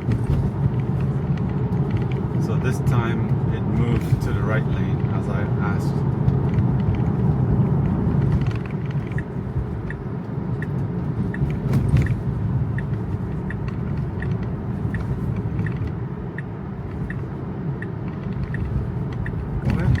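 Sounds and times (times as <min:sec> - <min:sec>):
turn signal ticking: 0:00.0 - 0:03.8, 0:06.0 - 0:20.0
road and tyre rumble on wet pavement: 0:00.0 - 0:20.0.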